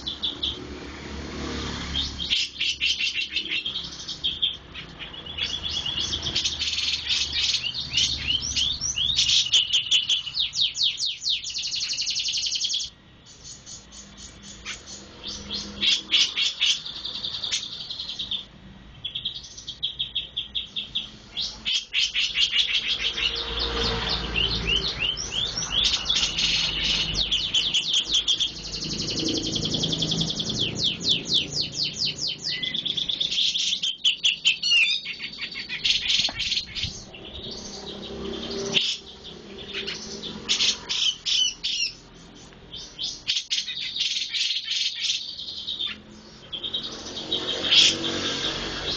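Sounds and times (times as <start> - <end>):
songbird chirping and trilling: 0.0 - 48.9.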